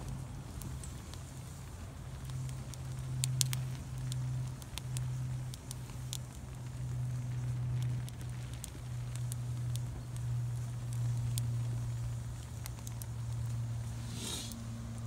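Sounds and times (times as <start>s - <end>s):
campfire crackling and popping: 0.0s - 15.0s
low steady hum: 0.0s - 15.0s.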